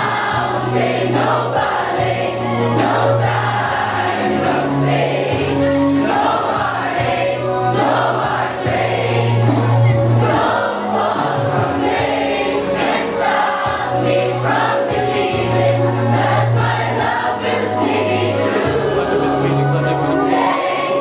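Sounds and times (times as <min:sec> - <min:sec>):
children's choir singing a hymn: 0:00.0 - 0:21.0.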